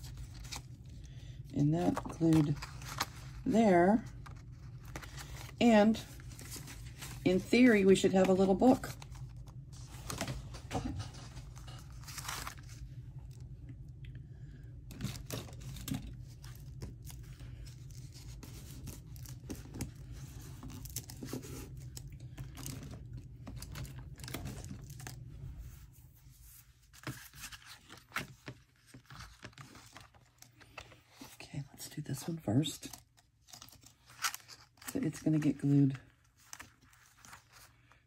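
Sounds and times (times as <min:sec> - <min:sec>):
paper pages rustling: 0:00.0 - 0:01.0, 0:01.7 - 0:12.9, 0:14.9 - 0:31.4, 0:32.8 - 0:38.0.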